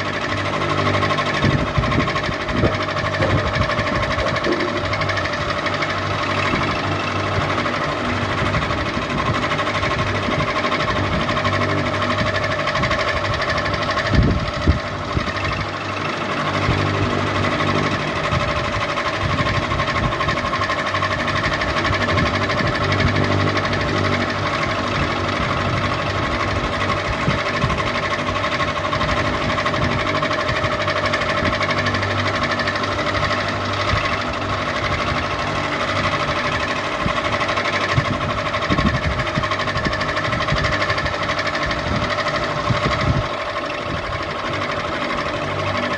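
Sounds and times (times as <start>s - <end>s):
ceiling fan humming and rattling: 0.0s - 45.9s.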